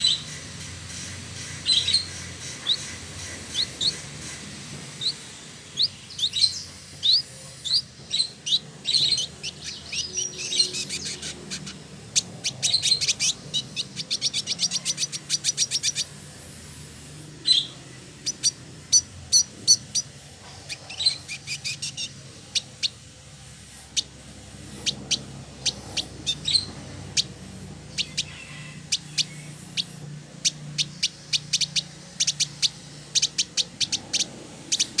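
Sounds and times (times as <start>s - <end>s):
bird singing with chirps and trills: 0.0s - 35.0s.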